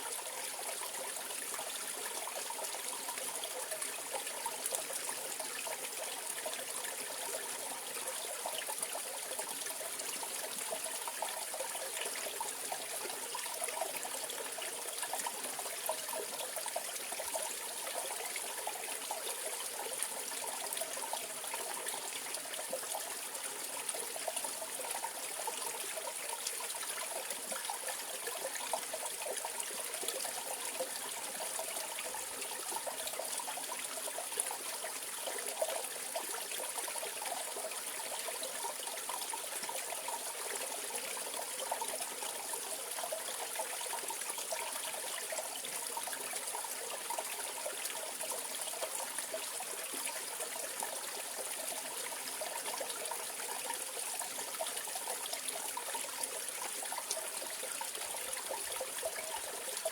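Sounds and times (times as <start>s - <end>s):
stream flowing: 9.1s - 59.9s.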